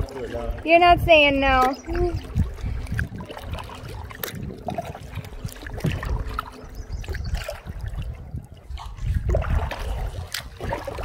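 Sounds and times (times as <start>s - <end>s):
paddles dipping into water: 0.0s - 11.0s
water dripping off paddle blades: 0.0s - 11.0s.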